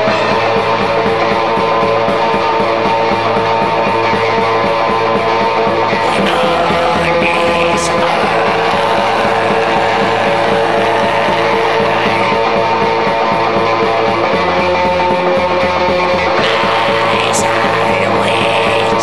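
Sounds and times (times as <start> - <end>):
distorted electric guitars: 0.0 - 19.0
fast drumming: 0.0 - 19.0.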